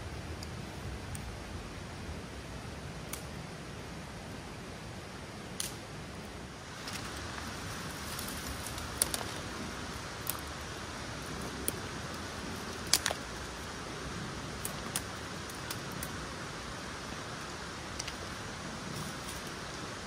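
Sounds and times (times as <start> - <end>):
rushing outdoor background noise: 0.0 - 20.0.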